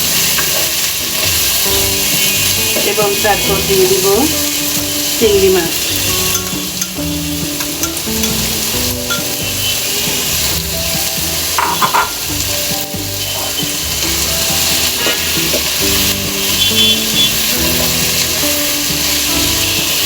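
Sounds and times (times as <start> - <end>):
food sizzling in oil: 0.0 - 20.0
spatula stirring in pan: 0.0 - 20.0.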